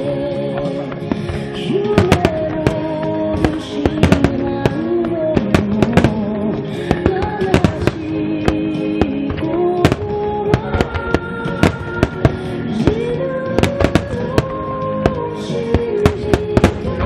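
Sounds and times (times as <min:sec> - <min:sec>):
music with sustained melody: 0:00.0 - 0:17.0
firework shells bursting: 0:00.8 - 0:17.0.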